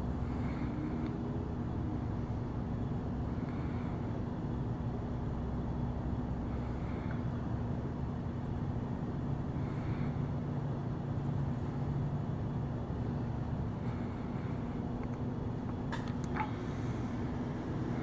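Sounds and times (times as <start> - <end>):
faint hum: 0.0 - 18.0
low background rumble: 0.0 - 18.0.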